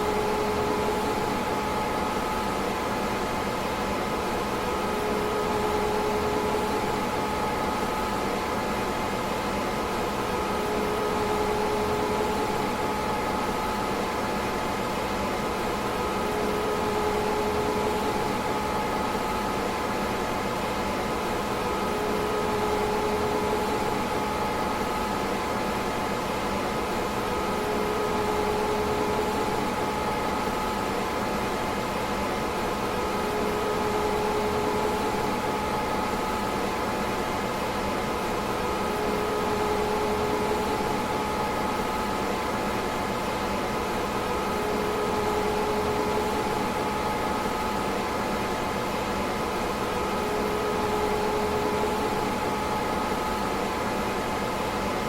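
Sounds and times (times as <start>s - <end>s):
computer cooling fans whirring: 0.0s - 55.0s.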